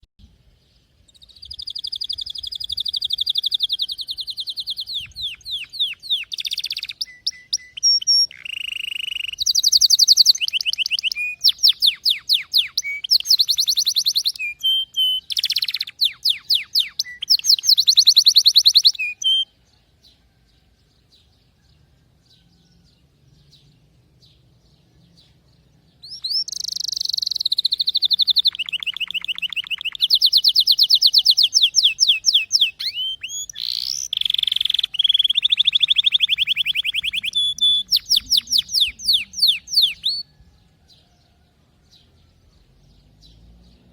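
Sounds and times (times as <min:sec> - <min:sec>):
canary singing trills: 0:01.1 - 0:20.2, 0:21.7 - 0:41.2.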